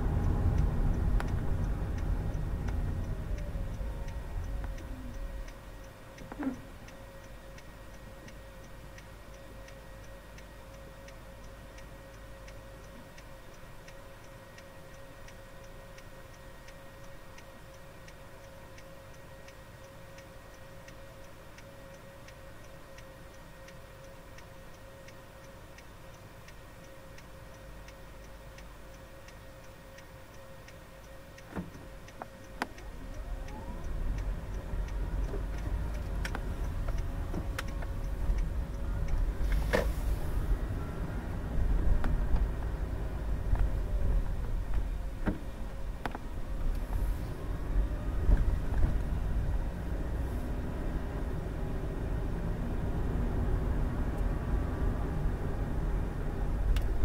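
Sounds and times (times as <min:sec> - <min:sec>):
engine and road noise rumble: 0:00.0 - 0:57.0
turn signal ticking: 0:00.0 - 0:57.0.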